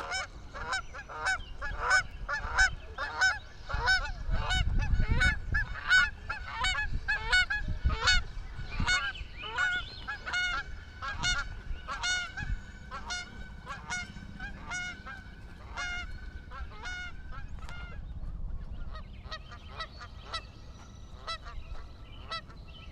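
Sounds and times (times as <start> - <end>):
geese honking: 0.0 - 18.0, 18.7 - 22.9.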